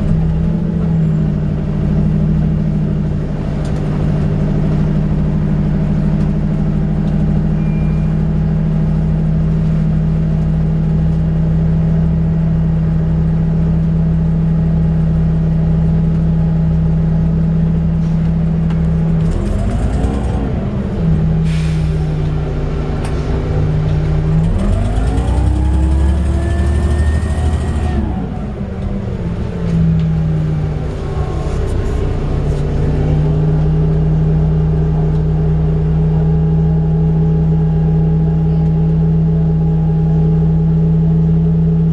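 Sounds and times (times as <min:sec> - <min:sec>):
bus engine humming: 0:00.0 - 0:41.8.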